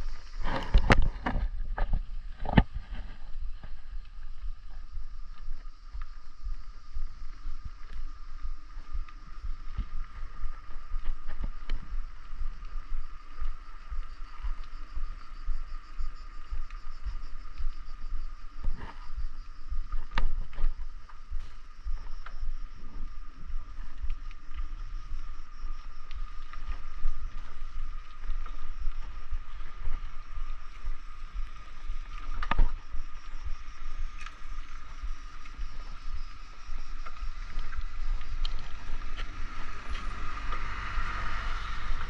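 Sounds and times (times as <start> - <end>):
bicycle tyre rumble: 0.0 - 42.0
faint steady whine: 0.0 - 42.0
wind buffeting microphone: 0.0 - 42.0.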